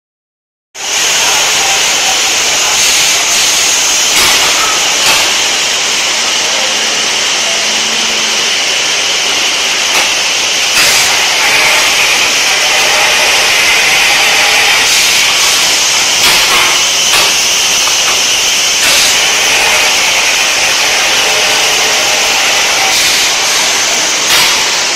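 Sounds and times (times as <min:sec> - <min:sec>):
loud hissing machine noise: 0:00.8 - 0:24.9.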